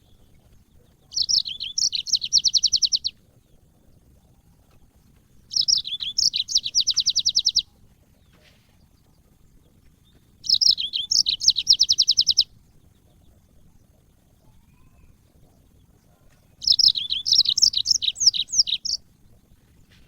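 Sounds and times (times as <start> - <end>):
canary singing with fast trill: 0.0 - 20.0.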